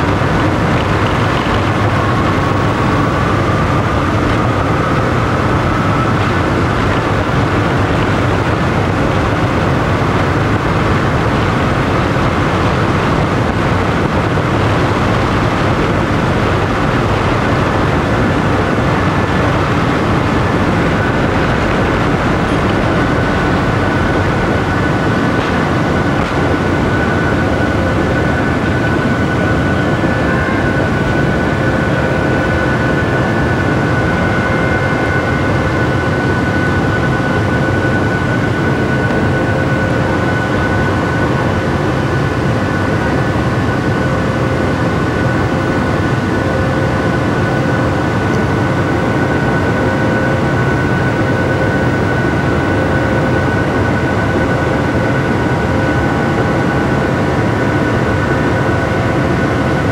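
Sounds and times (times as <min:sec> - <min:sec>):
engine fan whine: 0:00.0 - 0:59.9
jet engines roaring in cabin: 0:00.0 - 0:59.9.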